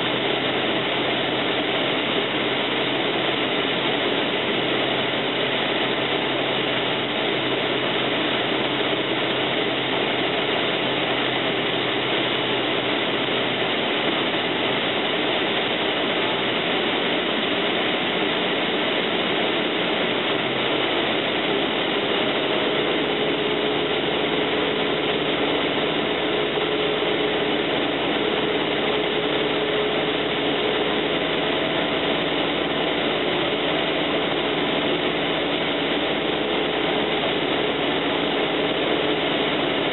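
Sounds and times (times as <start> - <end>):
airplane engine and propeller: 0.0 - 39.9.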